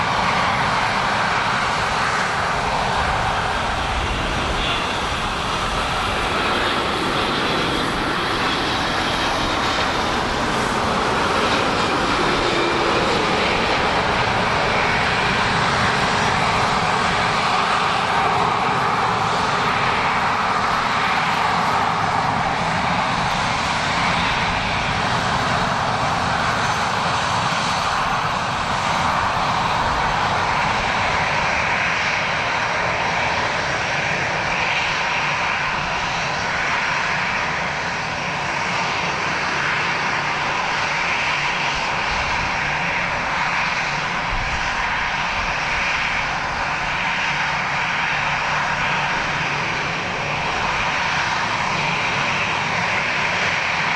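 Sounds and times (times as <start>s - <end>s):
airliner engines running: 0.0s - 53.9s.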